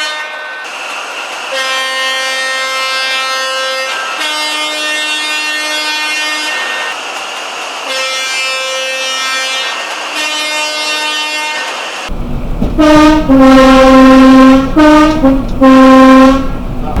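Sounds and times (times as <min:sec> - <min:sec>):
train two-tone air horn: 0:00.0 - 0:00.7, 0:01.5 - 0:07.0, 0:07.8 - 0:12.0, 0:12.8 - 0:16.6.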